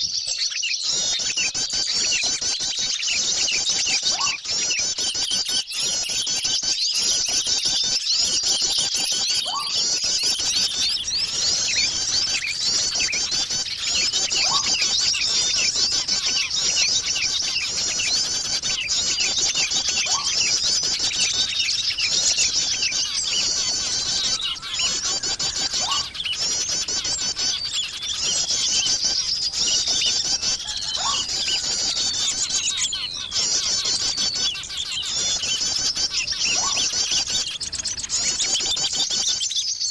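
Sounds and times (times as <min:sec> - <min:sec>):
small birds twittering: 0:00.0 - 0:39.9.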